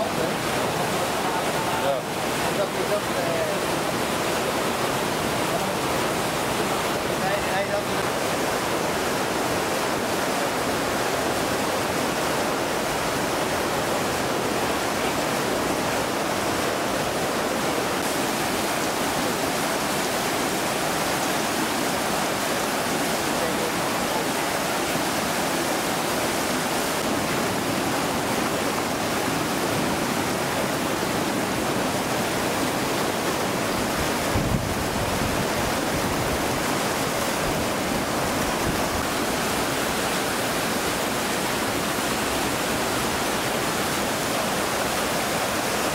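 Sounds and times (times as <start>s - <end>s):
churning outflow water: 0.0s - 45.9s
water rushing and splashing: 0.0s - 45.9s.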